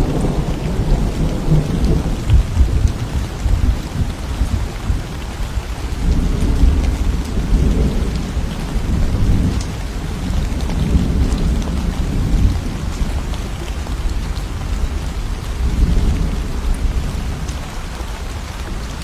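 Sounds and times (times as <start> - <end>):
rolling thunder: 0.0 - 17.6
steady rainfall: 0.0 - 19.0.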